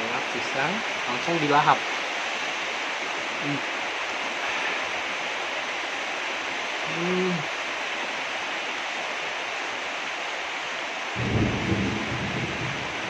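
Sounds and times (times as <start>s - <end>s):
hard rain hiss: 0.0s - 13.0s.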